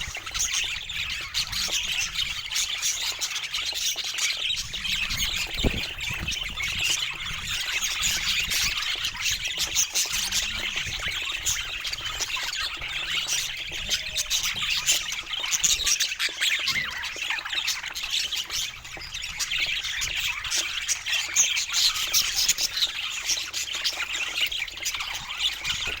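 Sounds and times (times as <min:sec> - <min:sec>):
budgies chattering: 0:00.0 - 0:26.0.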